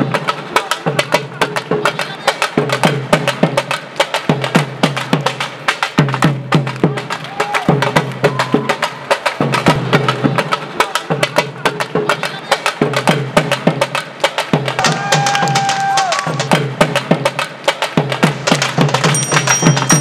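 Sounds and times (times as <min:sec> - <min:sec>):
dhol drums played fast: 0:00.0 - 0:20.0.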